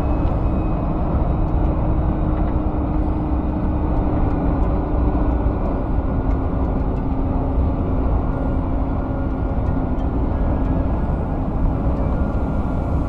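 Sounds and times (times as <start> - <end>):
constant low hum: 0.0 - 13.0
truck engine and road drone: 0.0 - 13.0.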